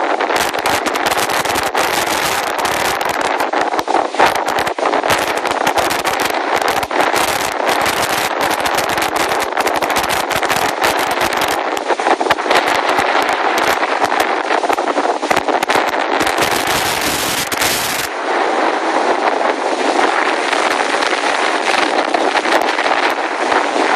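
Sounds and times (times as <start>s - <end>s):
strong wind buffeting microphone: 0.0s - 23.9s.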